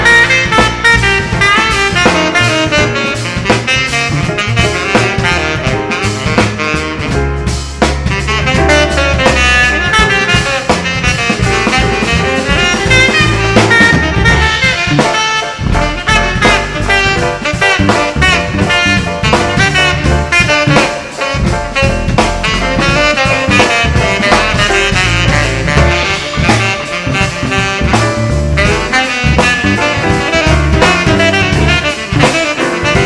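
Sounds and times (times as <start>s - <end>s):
live band music: 0.0s - 33.0s.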